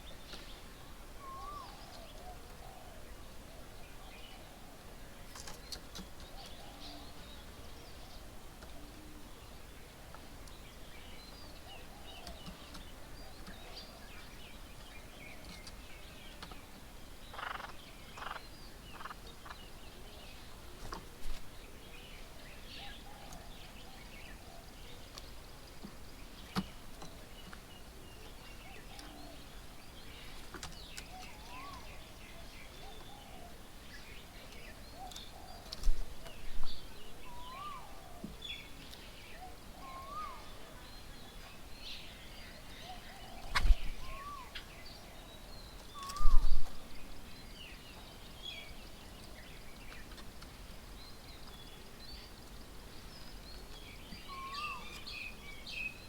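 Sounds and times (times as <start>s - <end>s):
birds chirping and calling: 0.0s - 56.0s.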